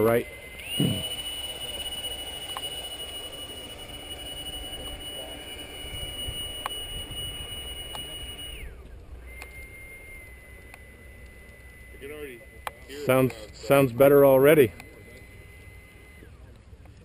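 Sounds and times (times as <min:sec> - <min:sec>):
electric ducted fan whine: 0:00.0 - 0:17.0.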